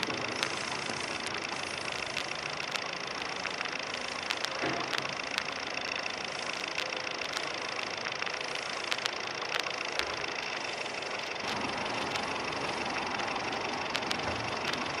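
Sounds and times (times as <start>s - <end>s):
engine running: 0.0s - 15.0s
light ticks: 0.0s - 15.0s.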